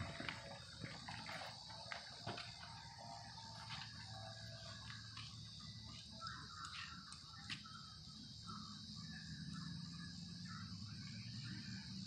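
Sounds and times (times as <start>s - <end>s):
high drone of insects: 0.0s - 12.0s.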